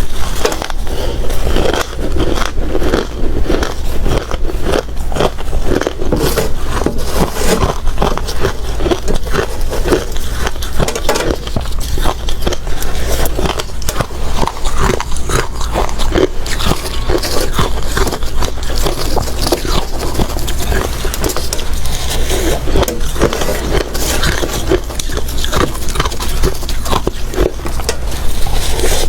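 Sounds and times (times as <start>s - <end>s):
ice being chewed: 0.0s - 29.0s.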